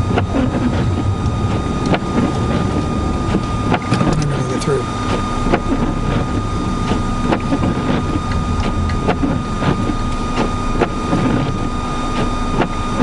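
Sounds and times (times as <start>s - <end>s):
car running in snow: 0.0s - 13.0s.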